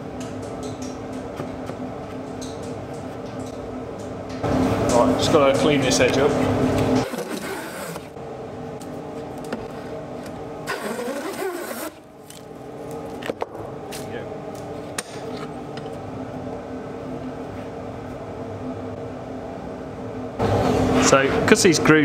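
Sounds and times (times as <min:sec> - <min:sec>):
workshop hum: 0:00.0 - 0:22.0.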